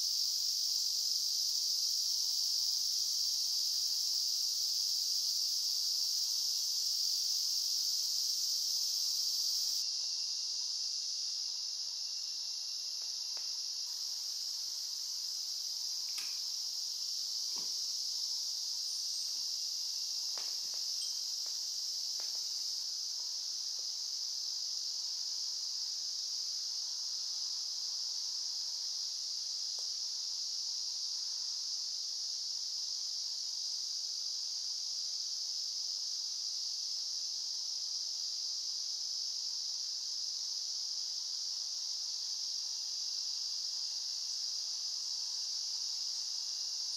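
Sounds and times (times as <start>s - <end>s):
insects chorus shrill hiss: 0.0s - 46.9s.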